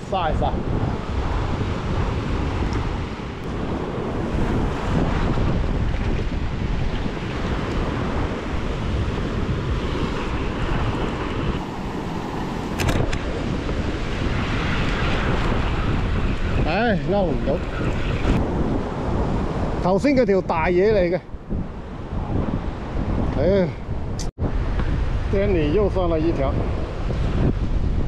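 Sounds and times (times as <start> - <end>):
surf on rocks: 0.0 - 23.6
wind buffeting microphone: 0.0 - 28.0.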